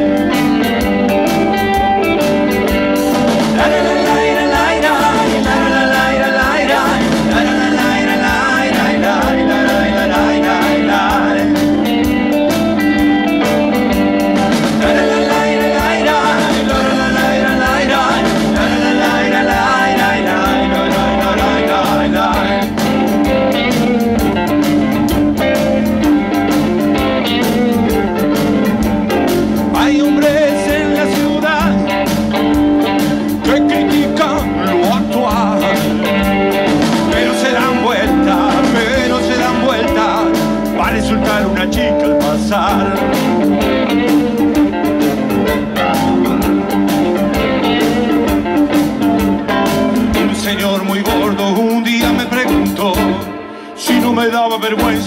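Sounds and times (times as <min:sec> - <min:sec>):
bass guitar: 0:00.0 - 0:55.0
drums: 0:00.0 - 0:55.0
electric guitars: 0:00.0 - 0:55.0.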